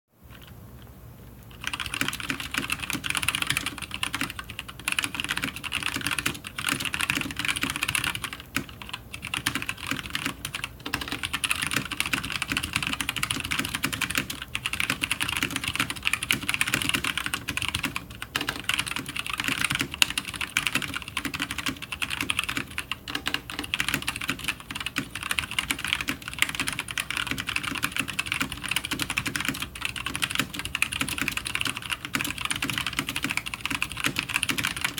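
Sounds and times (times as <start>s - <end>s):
mechanical keyboard typing: 1.5s - 34.9s.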